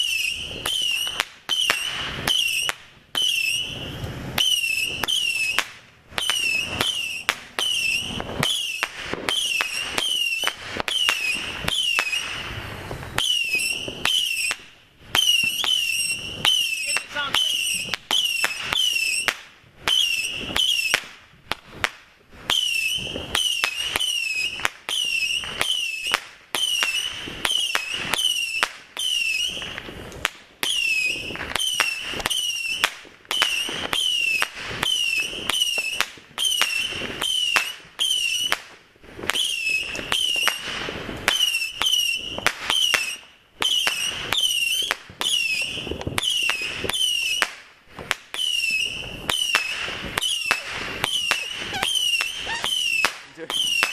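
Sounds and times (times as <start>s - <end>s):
firework crackling pops: 0.0s - 53.9s
firework whistles: 0.0s - 53.9s.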